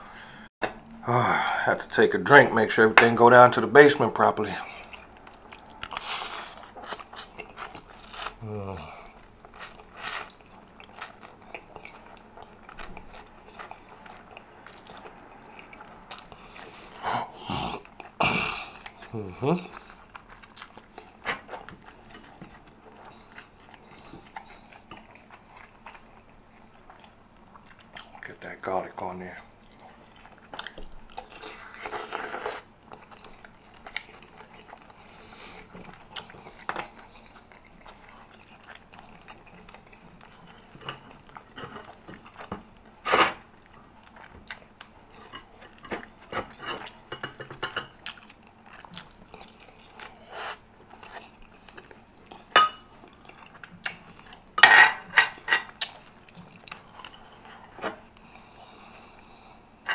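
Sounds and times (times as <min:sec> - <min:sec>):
chewing food: 0:04.6 - 0:17.0, 0:17.8 - 0:54.6, 0:55.3 - 0:59.5.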